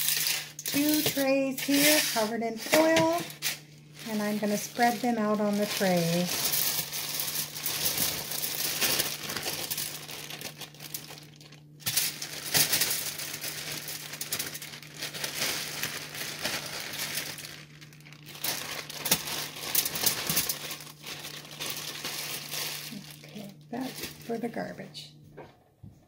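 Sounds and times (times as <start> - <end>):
vegetable cubes tumbling onto trays: 0.0 - 23.2
plastic bag crinkling: 0.0 - 24.8
steady low hum: 0.0 - 26.0.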